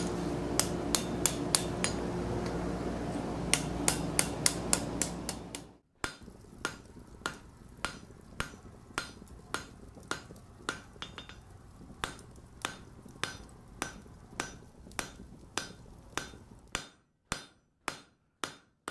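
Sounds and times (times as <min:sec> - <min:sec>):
hammer striking anvil: 0:00.0 - 0:02.6, 0:03.5 - 0:11.4, 0:12.0 - 0:18.9.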